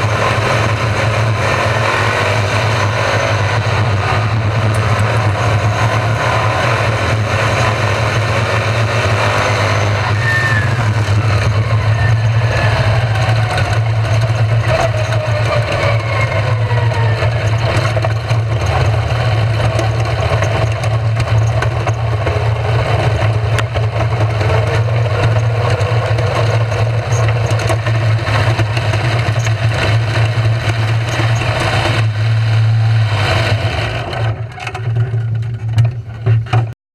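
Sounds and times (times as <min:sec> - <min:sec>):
race car engines droning: 0:00.0 - 0:36.8.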